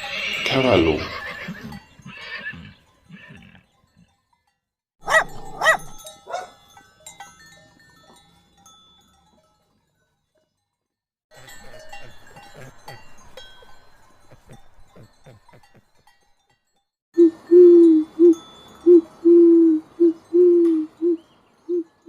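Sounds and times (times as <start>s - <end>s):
cowbells clanking: 0.0s - 19.2s.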